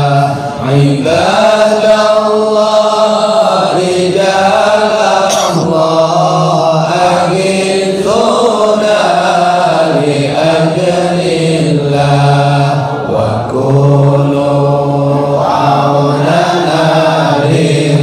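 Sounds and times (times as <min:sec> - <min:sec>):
voices chanting together: 0:00.0 - 0:18.0.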